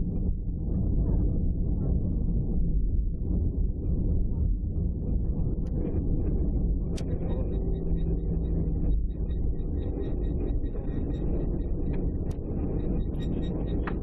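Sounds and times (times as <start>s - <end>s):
faint steady hum: 0.0s - 14.0s
low rumble of jet cabin: 0.0s - 14.0s.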